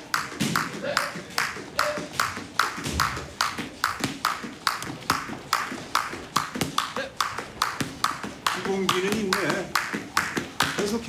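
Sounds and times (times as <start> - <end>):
jump rope slapping floor: 0.0 - 11.0
rope swishing: 0.0 - 11.0.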